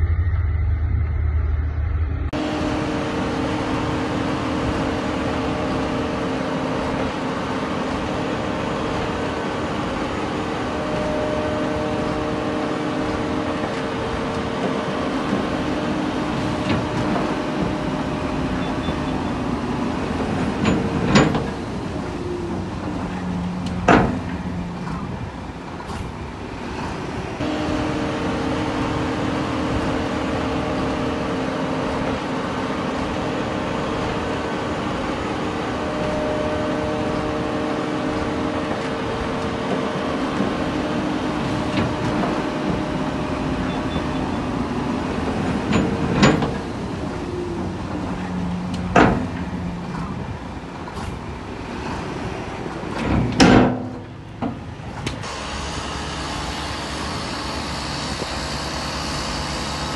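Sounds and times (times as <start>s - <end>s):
heavy machinery diesel engines running: 0.0s - 59.9s.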